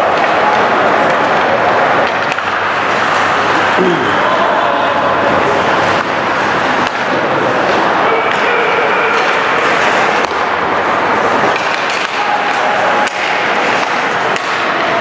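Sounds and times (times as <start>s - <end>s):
hockey sticks clacking on puck: 0.0s - 3.6s, 5.7s - 15.0s.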